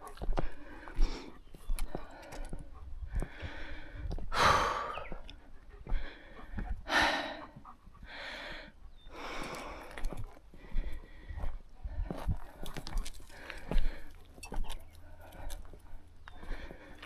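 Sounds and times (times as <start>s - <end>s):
heavy breathing: 0.0s - 17.0s.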